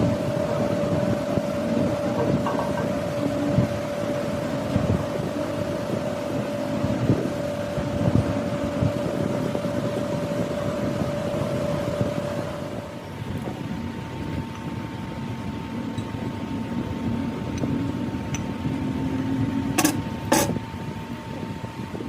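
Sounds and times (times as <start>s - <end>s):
workshop machine whining: 0.0s - 22.0s.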